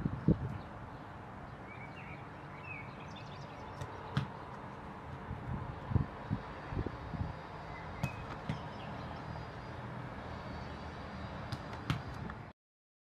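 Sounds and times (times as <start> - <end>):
outdoor background hiss: 0.0 - 12.5.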